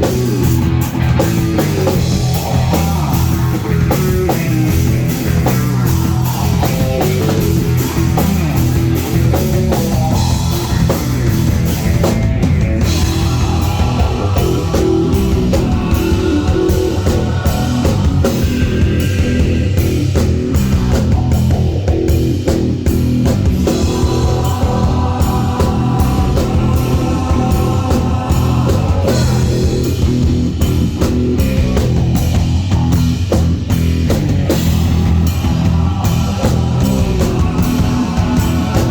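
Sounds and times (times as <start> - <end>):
bass guitar: 0.0 - 38.9
distorted electric guitar: 0.0 - 38.9
drum kit: 0.0 - 38.9.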